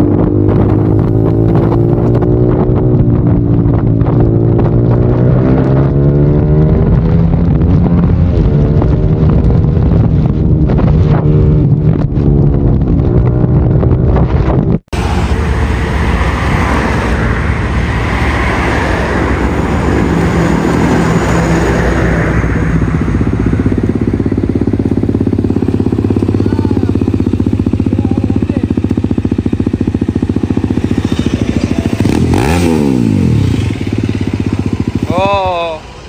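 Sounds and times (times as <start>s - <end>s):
motorcycle engine running: 0.0s - 36.0s
wind and road noise: 0.0s - 36.0s.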